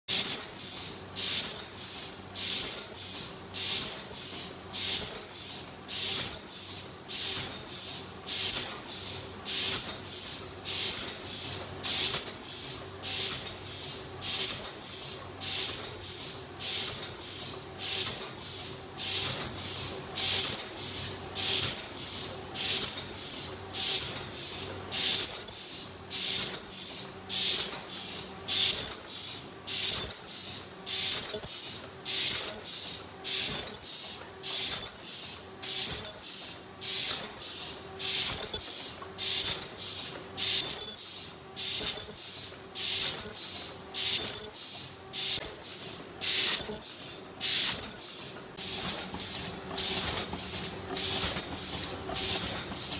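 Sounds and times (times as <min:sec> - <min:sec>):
machine hissing bursts: 0:00.1 - 0:52.9
mechanical hum: 0:00.1 - 0:52.9.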